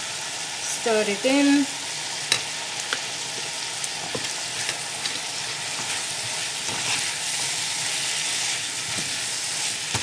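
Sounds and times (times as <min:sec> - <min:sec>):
vegetables sizzling in frying pan: 0:00.0 - 0:10.0.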